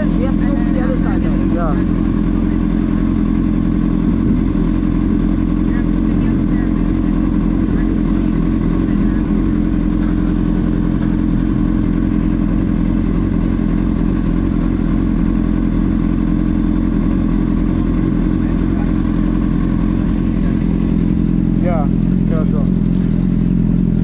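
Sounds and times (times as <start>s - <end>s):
car engine running steadily: 0.0s - 24.0s.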